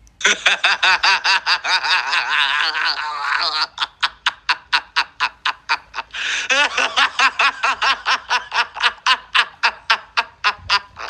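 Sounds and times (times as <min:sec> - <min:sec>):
person laughing hard: 0:00.2 - 0:11.0.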